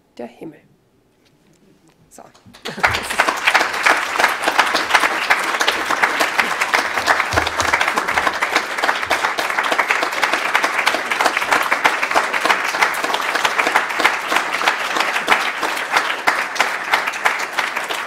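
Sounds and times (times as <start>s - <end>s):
audience applauding: 2.4s - 18.0s.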